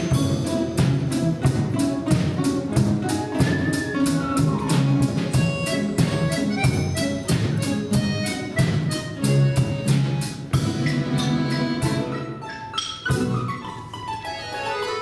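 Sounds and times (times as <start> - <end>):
drums beating: 0.0 - 14.6
folk instrument orchestra: 0.0 - 15.0.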